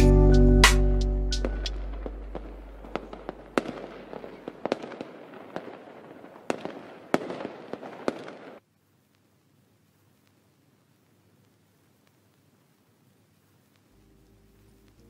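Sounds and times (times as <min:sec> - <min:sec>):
faint hiss: 0:01.4 - 0:15.0.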